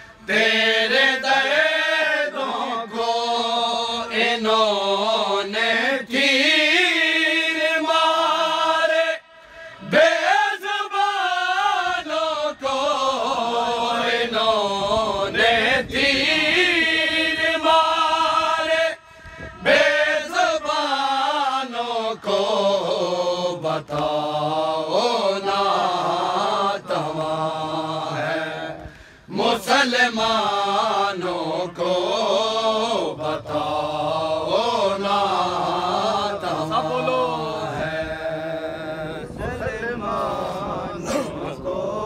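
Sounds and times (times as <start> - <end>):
men chanting a lament: 0.0 - 42.0.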